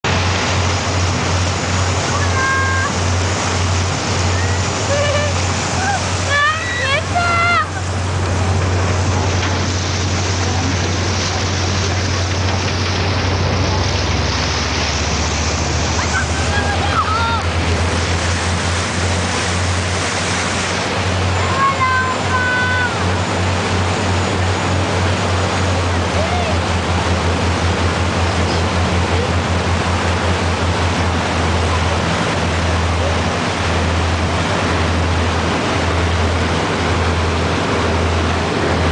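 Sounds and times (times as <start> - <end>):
boat engine humming: 0.0 - 38.9
propeller wash churning water: 0.0 - 38.9.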